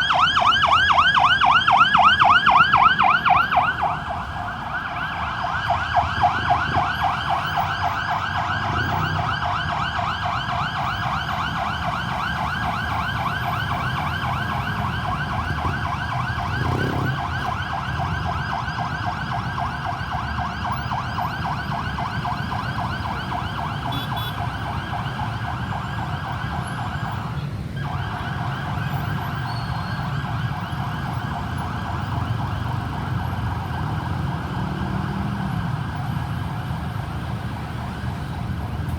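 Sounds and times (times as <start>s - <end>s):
ambulance siren yelping: 0.0s - 38.9s
vehicle and road rumble: 0.0s - 38.9s.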